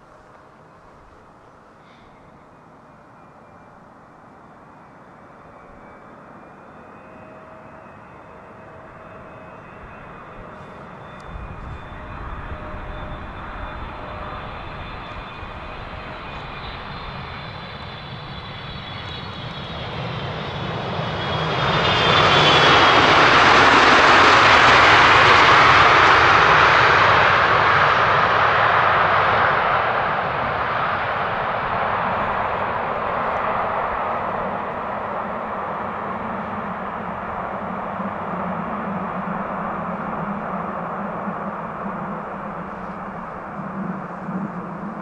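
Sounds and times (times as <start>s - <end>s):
jet engine high whine: 0.0s - 45.0s
jet roar: 4.3s - 45.0s.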